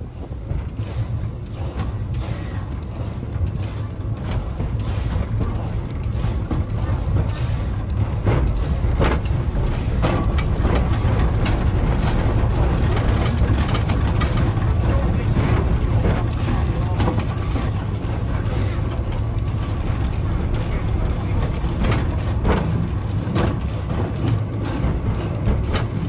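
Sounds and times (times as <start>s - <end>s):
clanks and knocks from running gear: 0.0s - 26.0s
steam locomotive rumble: 0.0s - 26.0s.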